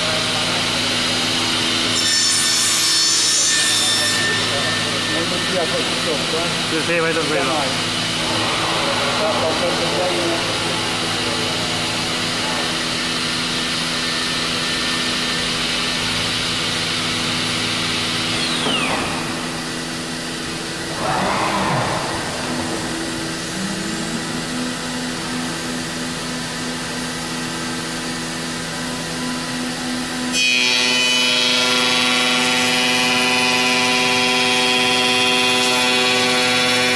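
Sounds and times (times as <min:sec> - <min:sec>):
machine high whine: 0:00.0 - 0:36.9
machine hum with fixed tones: 0:00.0 - 0:36.9.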